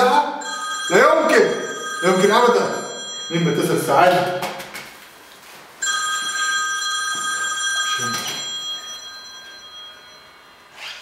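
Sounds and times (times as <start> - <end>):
mobile phone ringing: 0.3 - 4.4, 5.8 - 11.0.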